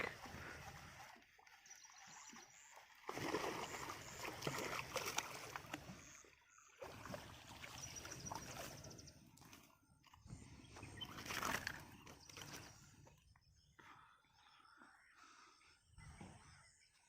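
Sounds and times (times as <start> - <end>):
water splashing and sloshing: 0.0 - 15.5.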